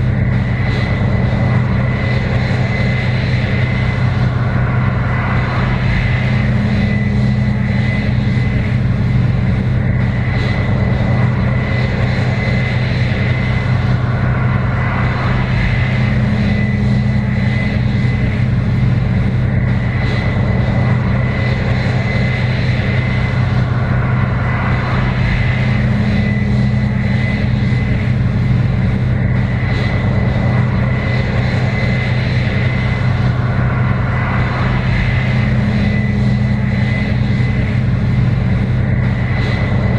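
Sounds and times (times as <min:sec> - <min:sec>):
combine harvester engine drone: 0:00.0 - 0:39.9
high machinery whine: 0:00.0 - 0:39.9.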